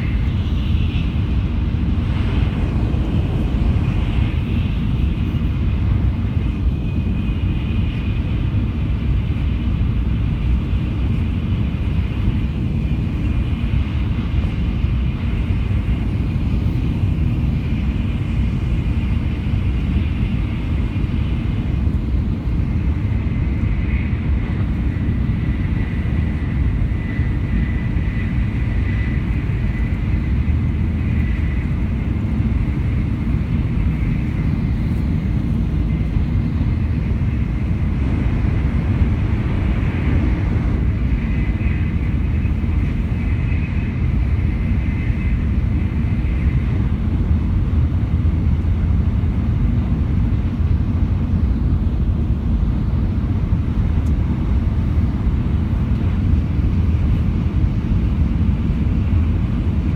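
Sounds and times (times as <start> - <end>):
faint high whine: 0.0 - 59.9
train rumbling inside carriage: 0.0 - 59.9.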